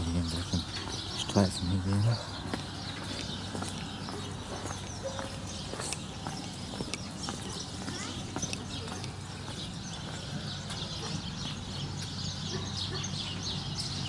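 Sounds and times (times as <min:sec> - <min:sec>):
footsteps on paved path: 0:00.0 - 0:14.0
small birds chirping: 0:00.0 - 0:14.0.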